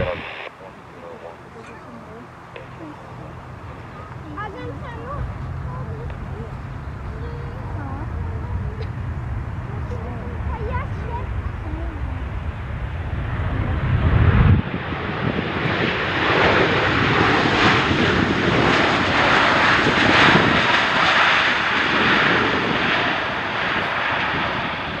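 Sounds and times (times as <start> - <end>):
deep aircraft rumble: 0.0 - 25.0
loud aircraft engine noise: 0.0 - 25.0.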